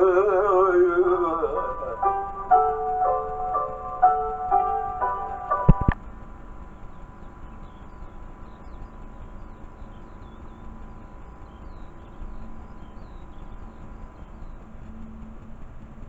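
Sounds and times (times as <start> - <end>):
small birds chirping: 0.0 - 6.0, 6.6 - 14.9
low hum: 0.0 - 16.0
tape hiss: 0.0 - 16.0.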